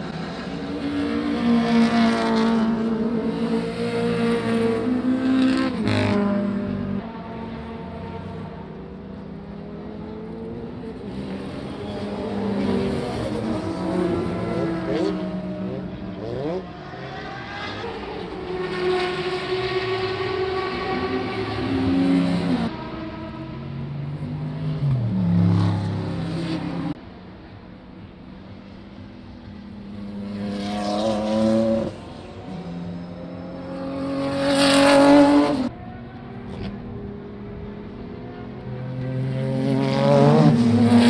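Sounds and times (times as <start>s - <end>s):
racing car engines at full throttle: 0.0s - 41.0s.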